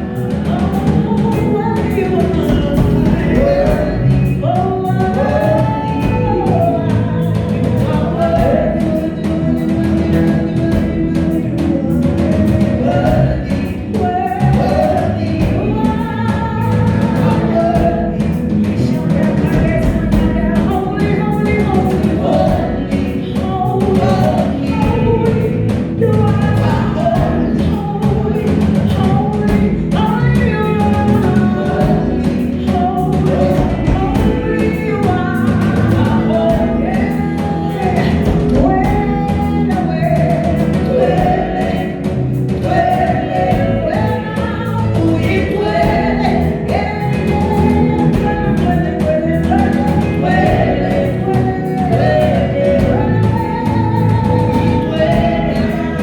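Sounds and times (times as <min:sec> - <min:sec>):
band with drums and bass: 0:00.0 - 0:56.0
group of voices singing: 0:00.0 - 0:56.0.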